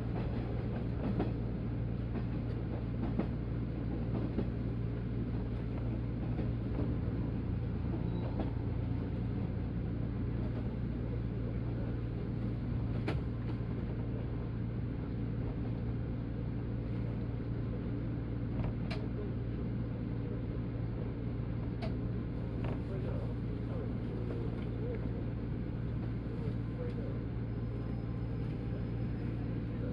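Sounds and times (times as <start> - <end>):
electric train hum and rumble: 0.0 - 29.9.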